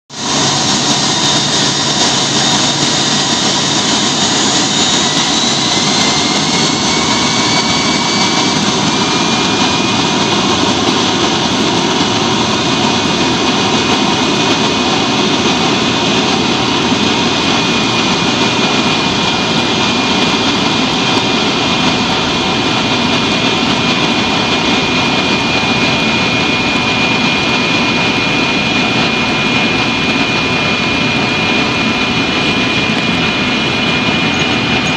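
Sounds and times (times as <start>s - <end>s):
jet engine roar inside cabin: 0.1s - 34.9s
jet engine whine rising in pitch: 0.1s - 34.9s.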